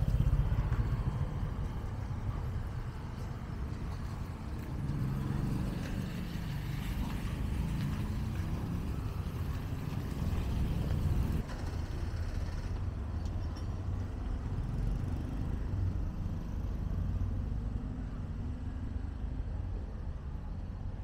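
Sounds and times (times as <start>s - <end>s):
motorbikes passing: 0.0s - 19.8s
light traffic rumble: 0.0s - 21.0s.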